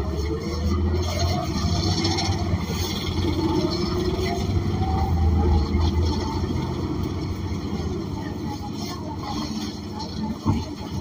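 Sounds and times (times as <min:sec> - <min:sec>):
deep bus engine hum: 0:00.0 - 0:11.0.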